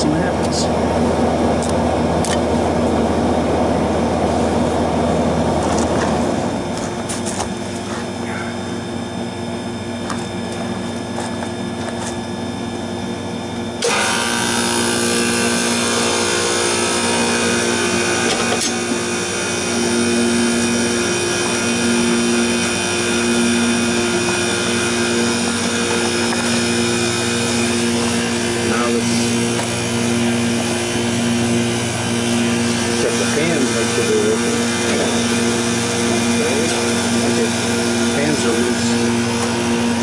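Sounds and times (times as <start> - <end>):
compressor and fan humming: 0.0 - 40.0.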